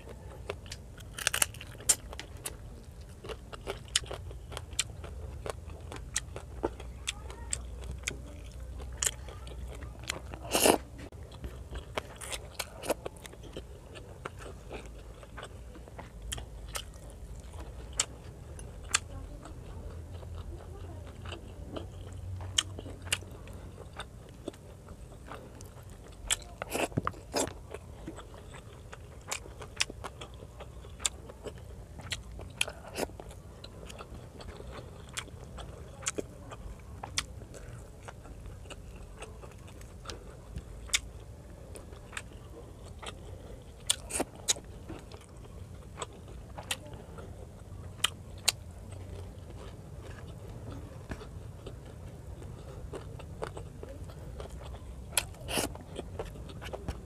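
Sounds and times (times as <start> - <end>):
chewing with wet mouth clicks: 0.0 - 57.0
steady low hum: 0.0 - 57.0.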